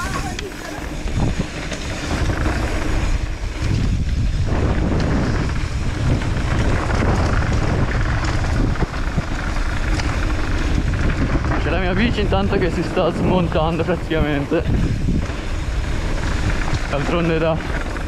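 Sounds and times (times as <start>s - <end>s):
bike rattling over bumps: 0.0s - 18.0s
wind buffeting microphone: 0.0s - 18.0s.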